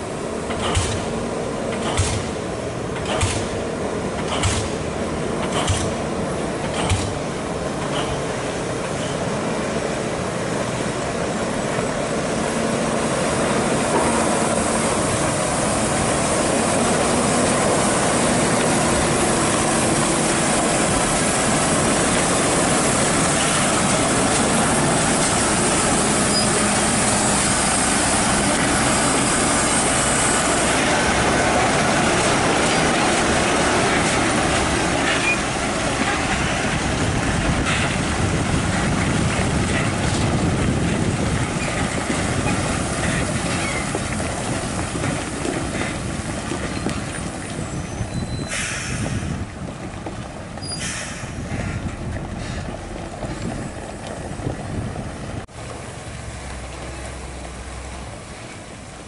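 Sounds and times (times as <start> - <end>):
truck diesel engine driving past: 0.0 - 59.0.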